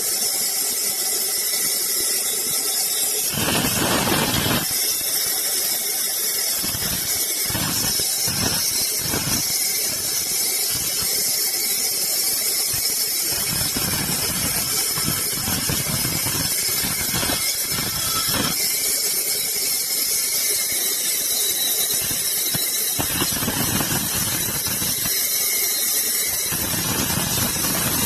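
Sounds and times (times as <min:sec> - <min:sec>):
saw squealing through wood: 0:00.0 - 0:28.0.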